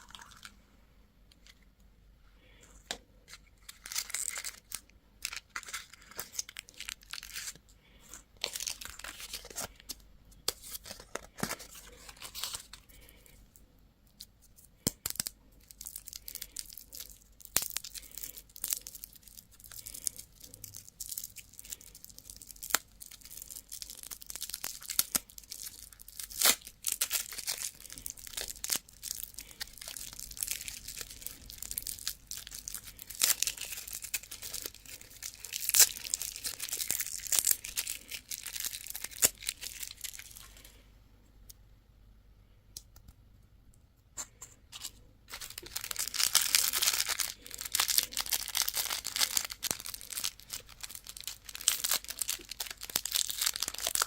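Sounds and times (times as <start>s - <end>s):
candy wrappers crinkling: 0.0s - 0.6s, 2.8s - 13.4s, 14.2s - 40.8s, 44.7s - 54.0s.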